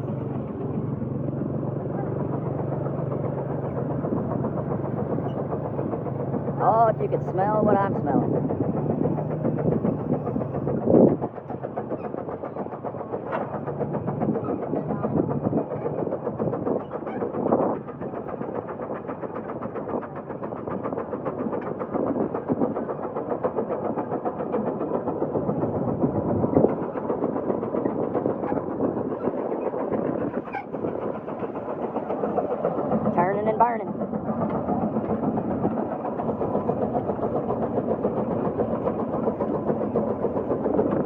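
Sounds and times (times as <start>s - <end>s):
steam engine exhaust chuffing: 0.0s - 41.0s.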